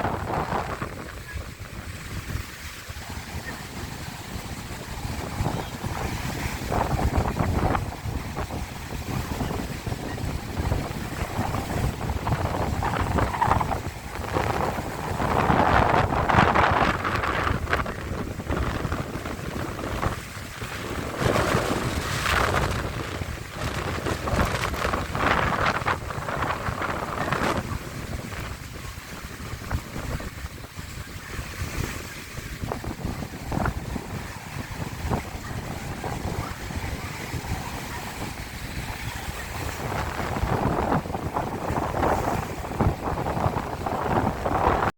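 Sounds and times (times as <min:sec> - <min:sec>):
sea waves breaking on beach: 0:00.0 - 0:44.9
wind buffeting microphone: 0:00.0 - 0:44.9.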